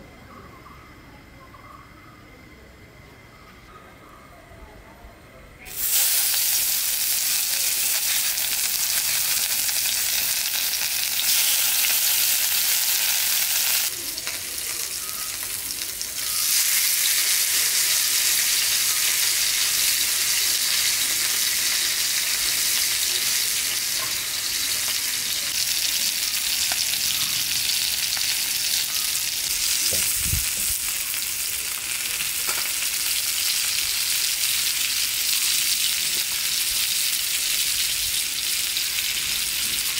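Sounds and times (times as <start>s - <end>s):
fish sizzling in hot oil: 5.7s - 39.9s.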